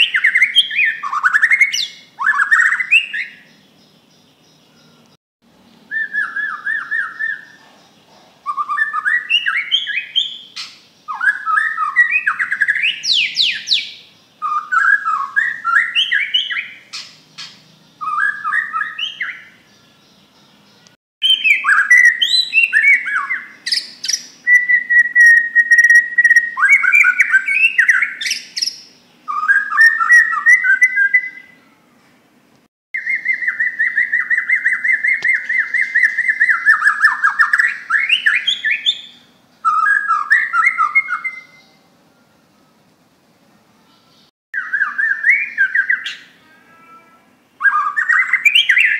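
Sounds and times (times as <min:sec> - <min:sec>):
songbird whistling and chattering: 0:00.0 - 0:03.7, 0:05.9 - 0:19.8, 0:21.2 - 0:31.6, 0:33.0 - 0:41.8, 0:44.6 - 0:46.4, 0:47.6 - 0:48.9.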